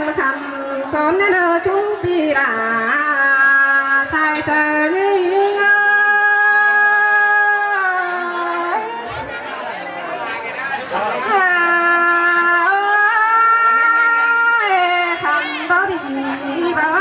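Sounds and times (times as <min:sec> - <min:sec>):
woman singing: 0:00.0 - 0:09.0, 0:11.0 - 0:17.0.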